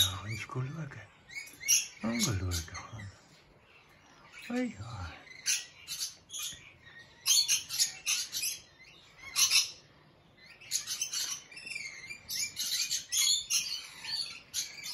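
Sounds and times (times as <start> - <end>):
small birds chirping and twittering: 0.0 - 14.9.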